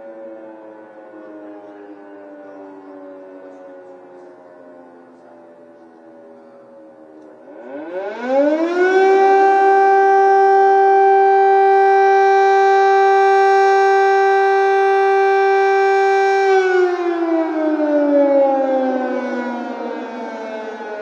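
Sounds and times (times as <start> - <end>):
air raid siren: 0.0 - 21.0.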